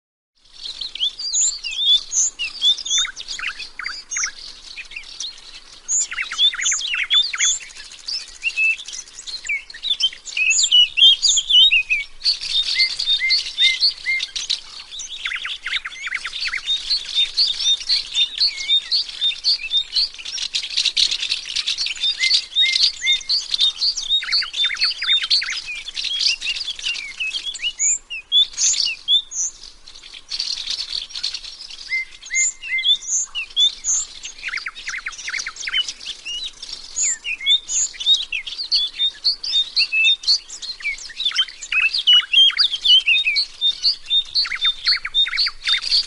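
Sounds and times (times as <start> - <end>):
small birds chirping: 0.4 - 46.0.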